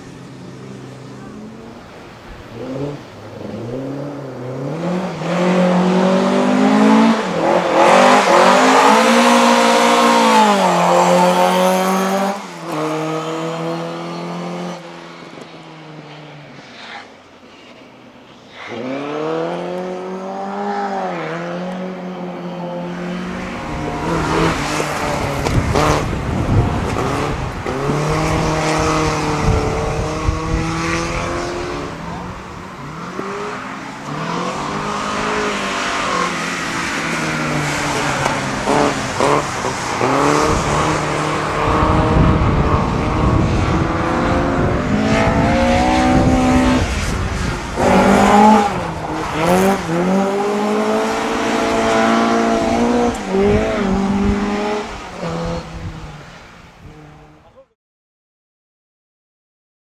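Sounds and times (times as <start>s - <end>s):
rally car engines revving: 0.0s - 57.7s.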